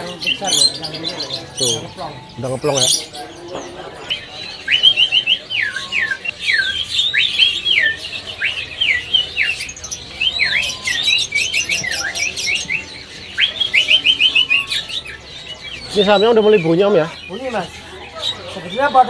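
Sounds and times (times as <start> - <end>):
high bird chirps: 0.0 - 19.0
songbird singing whistled notes: 0.0 - 19.0.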